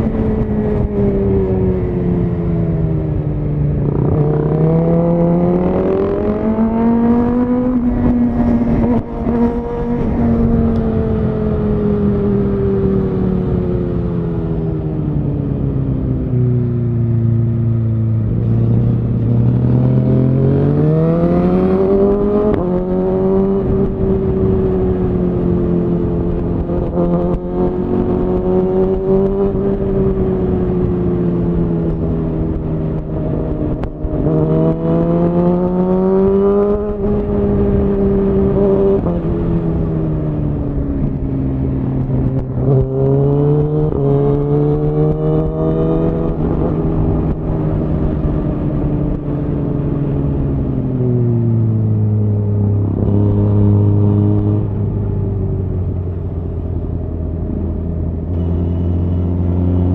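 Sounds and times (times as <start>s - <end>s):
motorcycle engine revving: 0.0s - 14.6s, 17.2s - 59.9s.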